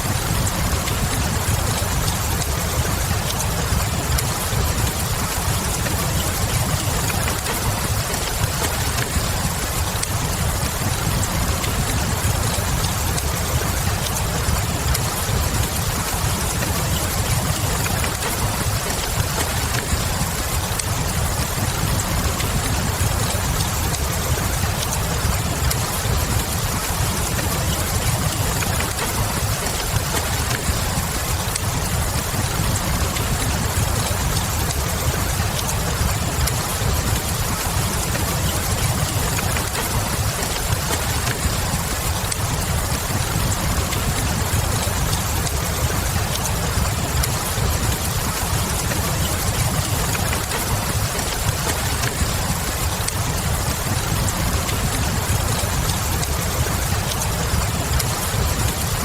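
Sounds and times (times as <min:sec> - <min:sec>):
log fire crackling: 0:00.0 - 0:59.0
steady rain: 0:00.0 - 0:59.0.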